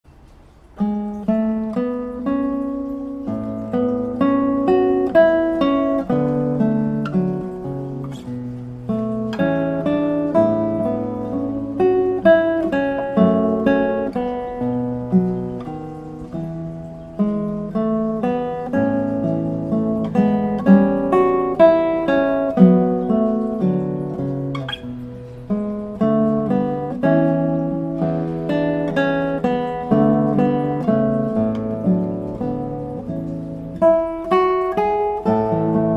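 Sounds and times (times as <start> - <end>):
acoustic guitar music: 0.0 - 35.9.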